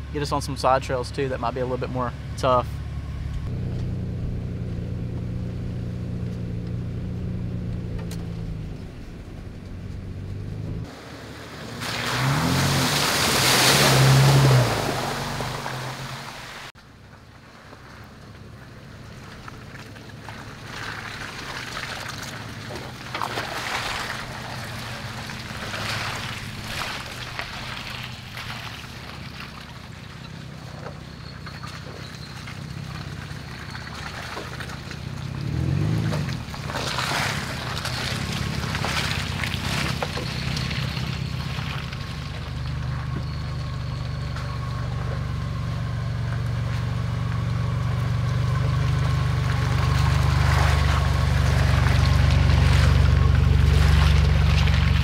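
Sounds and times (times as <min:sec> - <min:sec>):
tires squelching through mud: 0:00.0 - 0:55.0
truck engines crawling: 0:00.0 - 0:55.0.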